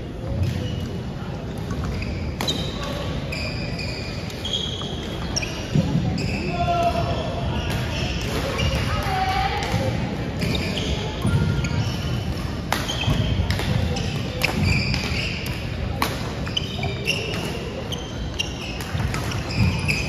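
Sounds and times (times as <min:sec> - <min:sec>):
sneakers squeaking: 0:00.1 - 0:20.0.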